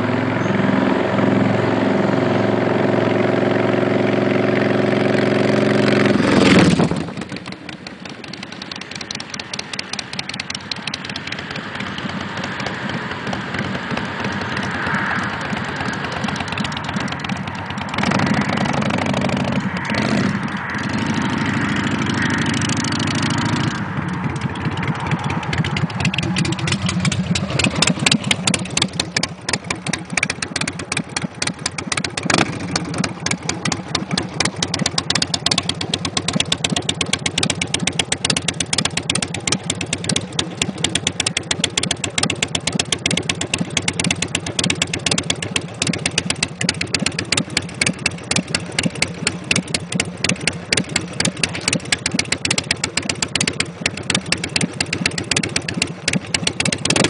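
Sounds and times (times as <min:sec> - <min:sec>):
motorcycle engine idling: 0:01.4 - 0:57.0.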